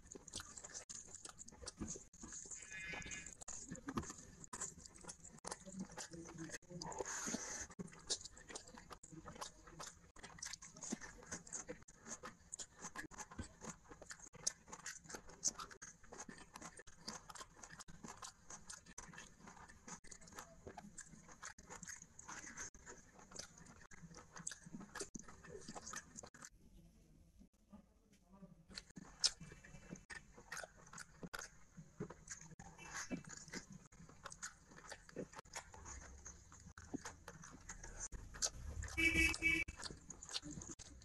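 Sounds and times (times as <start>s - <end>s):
fingers squishing wet rice: 0.0s - 26.5s, 28.7s - 41.0s
moist chewing and lip-smacking: 0.0s - 26.6s, 28.7s - 41.0s.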